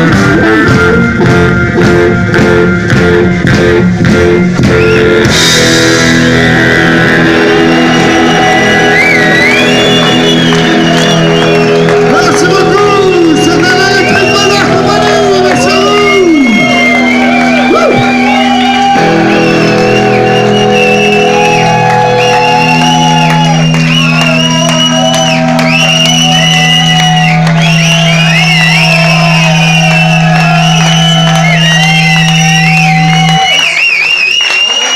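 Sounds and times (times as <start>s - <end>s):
loud low electronic drone: 0.0s - 33.5s.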